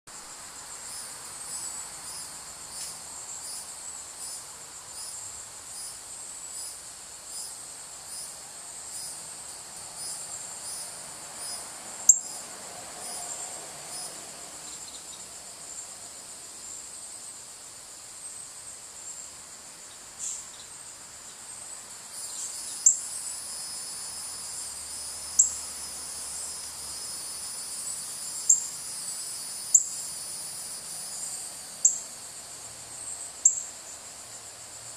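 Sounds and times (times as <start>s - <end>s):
continuous insect trill: 0.1s - 34.9s
insects chirping rhythmically: 0.2s - 34.9s.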